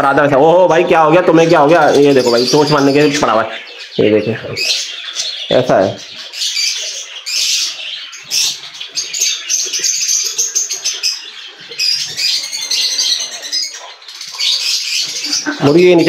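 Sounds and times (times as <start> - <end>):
budgerigars chirping and chattering: 0.0 - 16.0.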